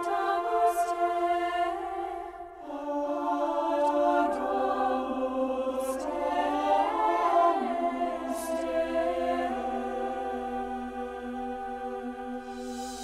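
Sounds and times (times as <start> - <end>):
choir singing unaccompanied: 0.0 - 13.0.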